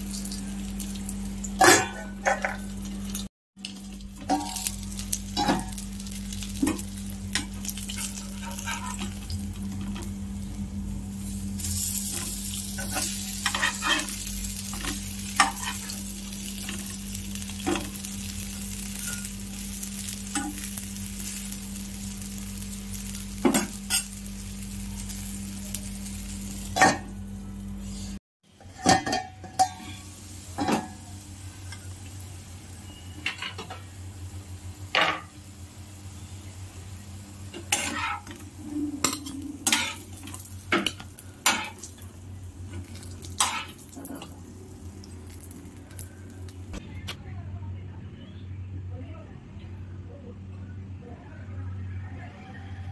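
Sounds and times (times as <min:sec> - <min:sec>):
bread sizzling in oil: 0:00.0 - 0:28.1, 0:28.9 - 0:46.8
low steady hum: 0:00.0 - 0:28.2, 0:28.8 - 0:52.9.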